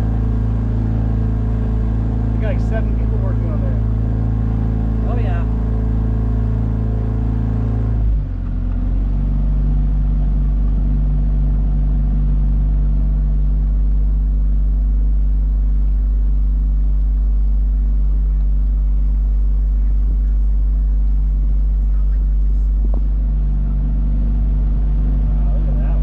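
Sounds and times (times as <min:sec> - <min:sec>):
outboard motor droning: 0:00.0 - 0:26.0.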